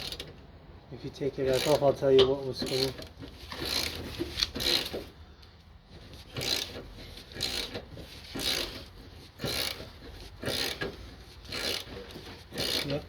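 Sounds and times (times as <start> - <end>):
ratchet wrench rasping: 0.0 - 0.3, 1.4 - 5.2, 6.0 - 13.0.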